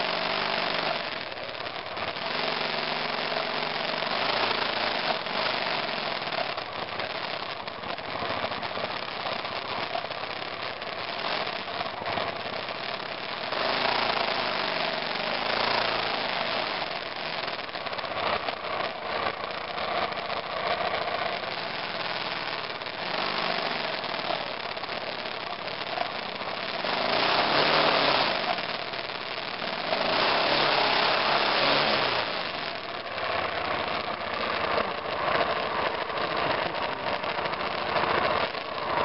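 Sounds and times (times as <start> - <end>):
motorcycle engine under load: 0.0 - 39.0
steady rushing noise: 0.0 - 39.0.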